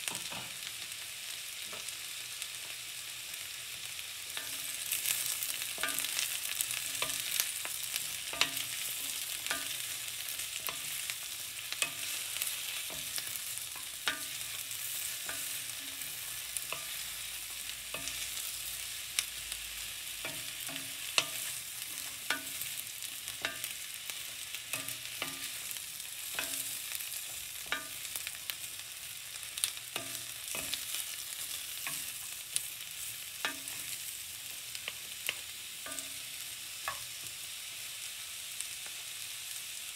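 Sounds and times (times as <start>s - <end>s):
vegetables sizzling in pan: 0.0s - 39.9s.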